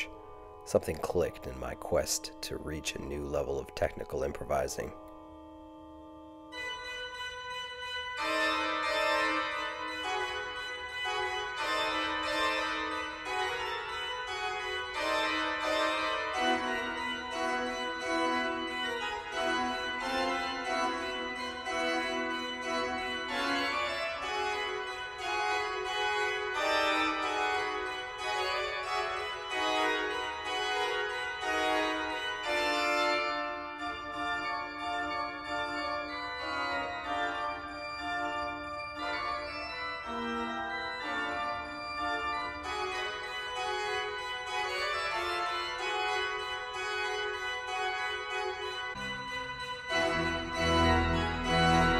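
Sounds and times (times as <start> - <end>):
pipe organ playing: 0.0 - 51.9.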